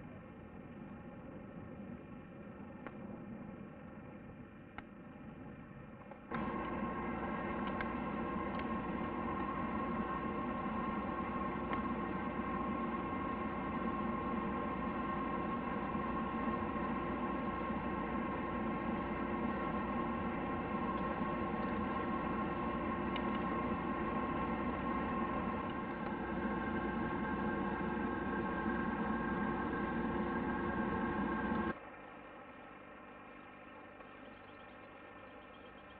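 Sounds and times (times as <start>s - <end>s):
steady mechanical hum: 0.0s - 35.9s.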